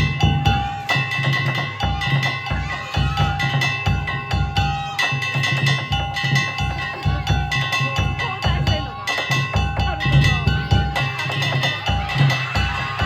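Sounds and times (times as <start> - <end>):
taiko drum beating: 0.0 - 13.0.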